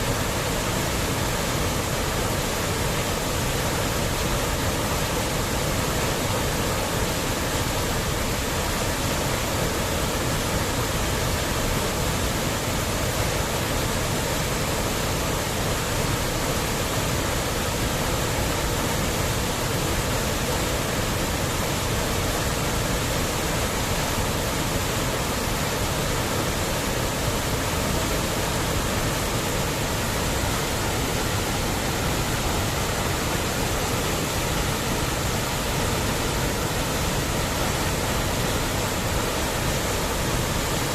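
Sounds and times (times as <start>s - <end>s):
waterfall: 0.0s - 40.9s.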